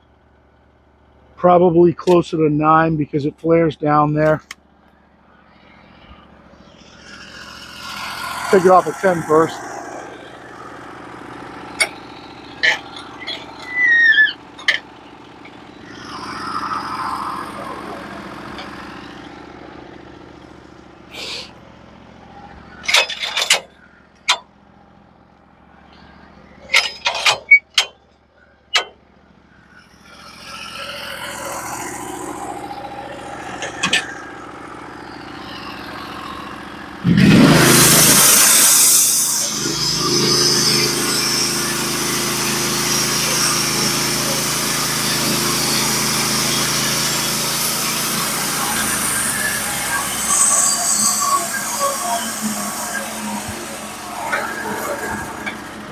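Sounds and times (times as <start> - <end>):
gas engine idling and revving: 0.0 - 55.9.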